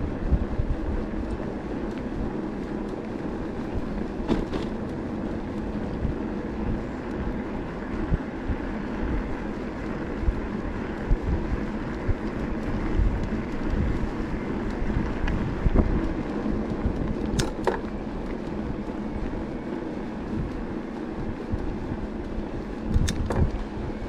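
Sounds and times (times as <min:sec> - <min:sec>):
bike tyres rumbling on road: 0:00.0 - 0:24.0
wind buffeting microphone: 0:00.0 - 0:24.0.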